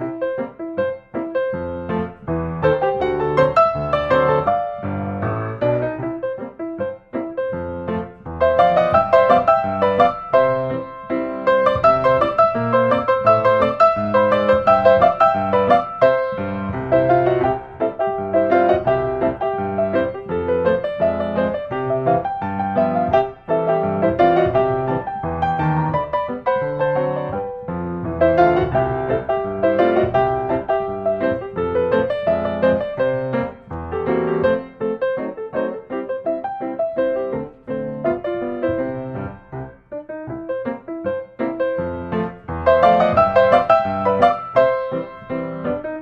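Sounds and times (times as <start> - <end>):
piano music: 0.0 - 46.0.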